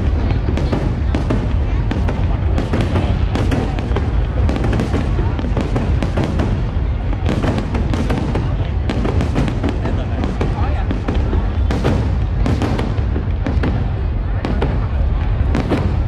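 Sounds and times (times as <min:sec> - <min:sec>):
firework crackle: 0:00.0 - 0:16.0.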